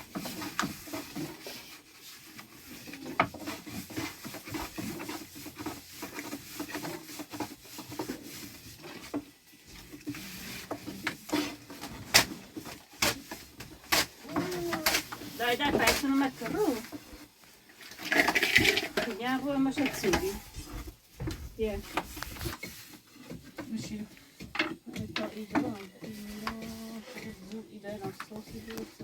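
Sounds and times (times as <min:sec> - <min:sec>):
irregular scraping and rubbing: 0:00.0 - 0:29.0.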